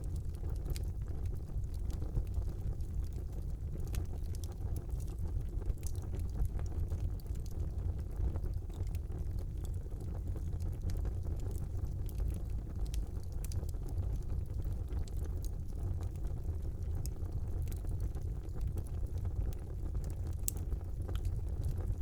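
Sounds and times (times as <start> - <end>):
fire crackles and pops: 0.0 - 22.0
low roar of flames: 0.0 - 22.0.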